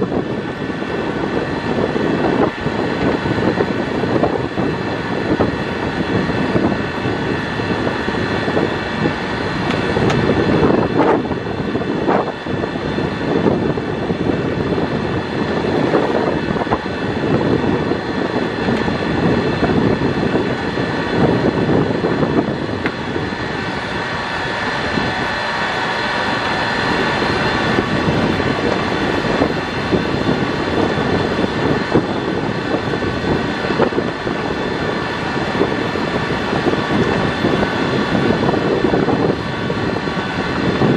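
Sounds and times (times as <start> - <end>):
drive whine: 0.0 - 40.9.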